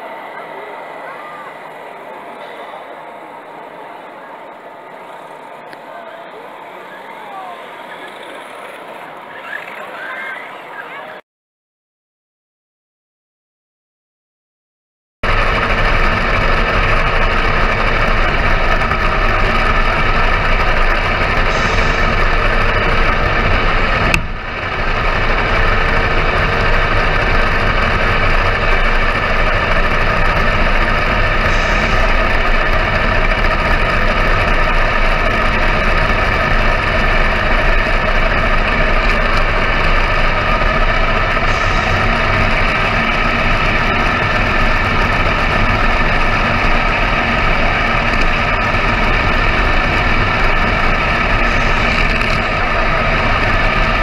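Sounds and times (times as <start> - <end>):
model truck engine drone: 0.0 - 11.2, 15.2 - 54.0.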